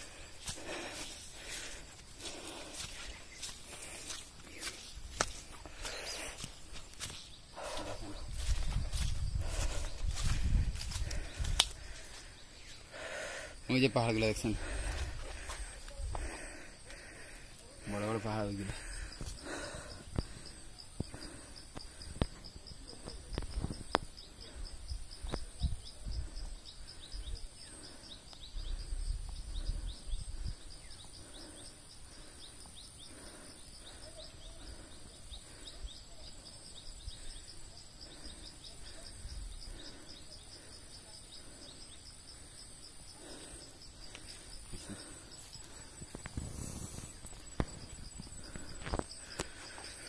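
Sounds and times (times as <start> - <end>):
insects chirping chorus: 0.0 - 50.0.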